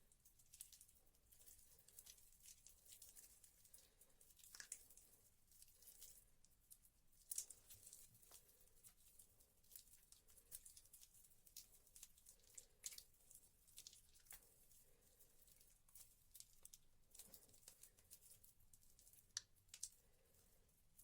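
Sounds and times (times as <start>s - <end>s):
wet soap squishing by hand: 0.0s - 21.0s.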